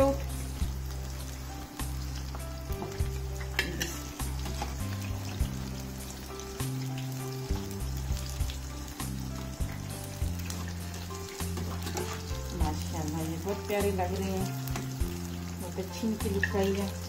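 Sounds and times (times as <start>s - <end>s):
background music: 0.0s - 17.0s
food deep-frying in oil: 0.0s - 17.0s.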